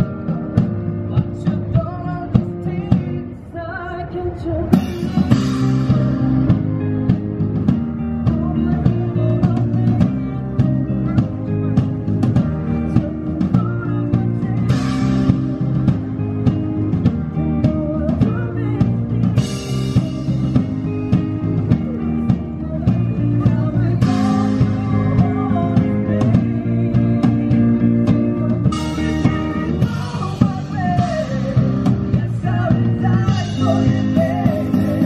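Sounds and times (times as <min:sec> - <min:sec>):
person singing: 0:00.0 - 0:07.2, 0:08.0 - 0:35.0
live band music over speakers: 0:00.0 - 0:35.0.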